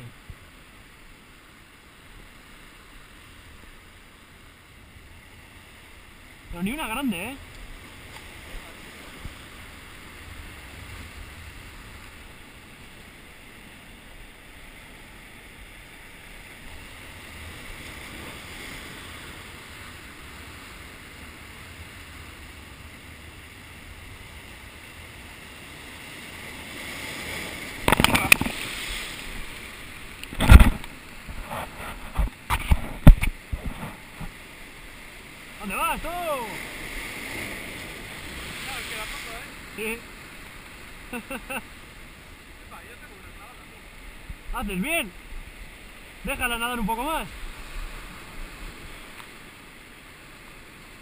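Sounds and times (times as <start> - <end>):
surf washing over rocks: 0.0 - 51.0
waves crashing: 0.0 - 51.0.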